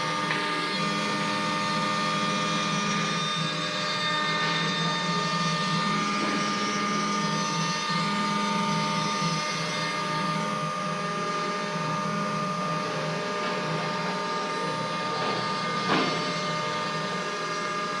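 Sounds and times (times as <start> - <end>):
engraving machine spindle whining: 0.0 - 18.0.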